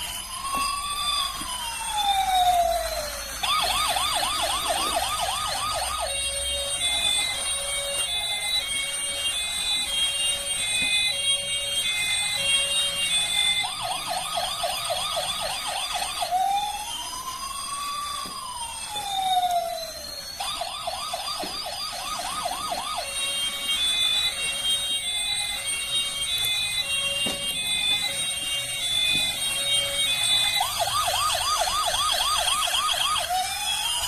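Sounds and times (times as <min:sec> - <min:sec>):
electronic toy siren: 0:00.0 - 0:34.0.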